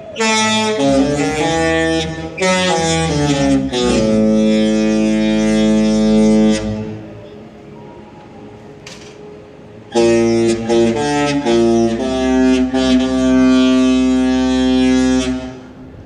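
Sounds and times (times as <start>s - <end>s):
musical ship horn chords: 0.0s - 16.0s.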